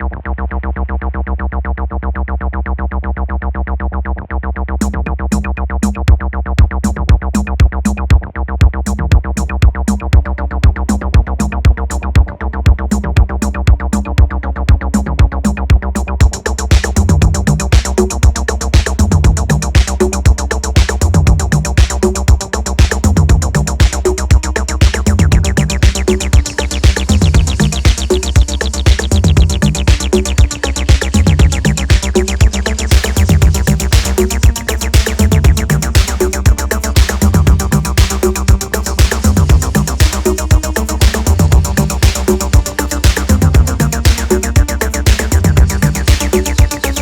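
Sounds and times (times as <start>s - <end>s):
electronic dance music: 4.8s - 47.0s.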